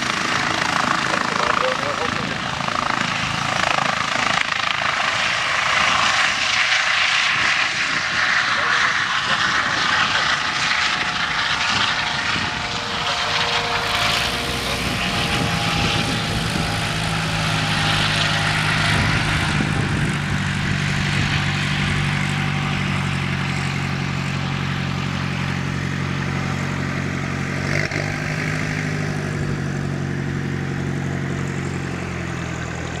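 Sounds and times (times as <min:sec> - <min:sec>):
steady low hum: 0:00.0 - 0:27.6
helicopter rotor and turbine: 0:00.0 - 0:33.0.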